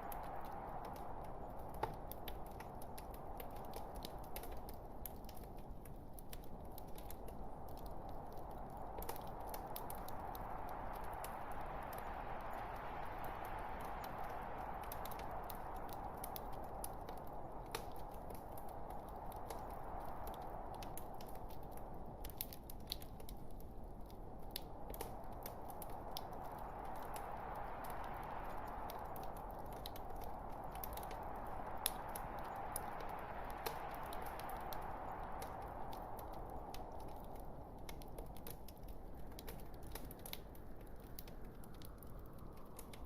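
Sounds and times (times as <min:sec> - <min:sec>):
fire crackling and hissing: 0:00.0 - 0:43.0.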